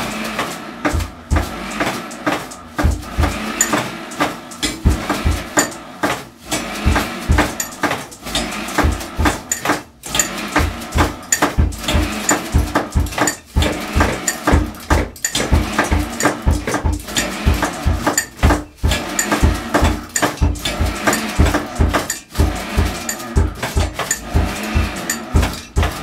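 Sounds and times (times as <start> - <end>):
percussion on pots and pans: 0.0 - 26.0.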